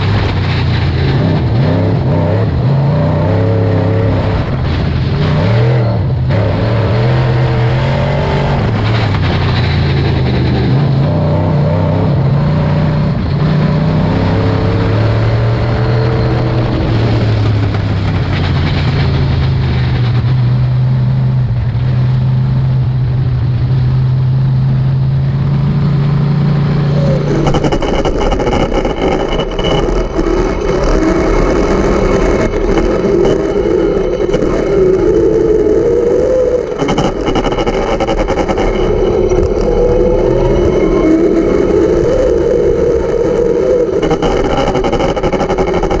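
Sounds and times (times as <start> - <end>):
race car engine revving: 0.0 - 21.8, 24.5 - 46.0
high steady whine: 0.0 - 46.0.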